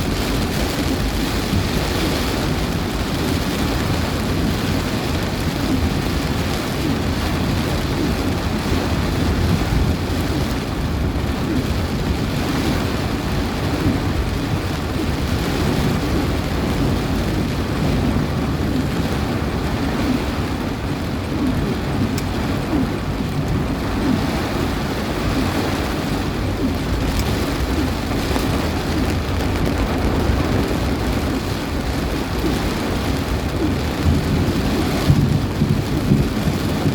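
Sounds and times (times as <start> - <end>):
deep constant rumble: 0.0 - 36.9
heavy rain in wind: 0.0 - 36.9.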